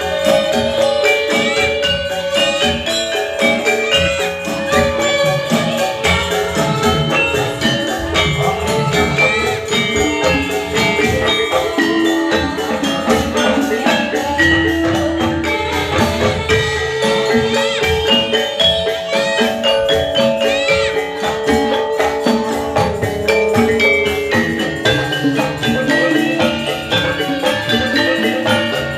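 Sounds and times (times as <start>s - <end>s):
drumming: 0.0s - 28.9s
gamelan music: 0.0s - 28.9s.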